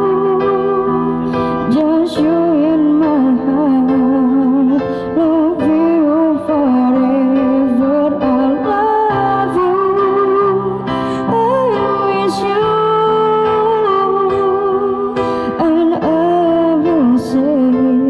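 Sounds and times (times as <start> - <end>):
person singing slow melody: 0.0 - 18.0.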